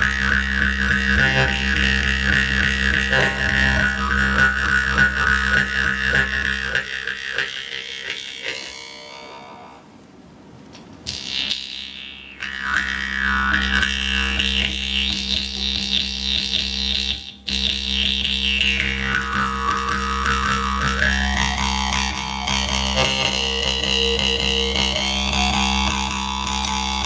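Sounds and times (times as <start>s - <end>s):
jaw harp buzzing drone: 0.0s - 10.1s, 11.0s - 27.0s.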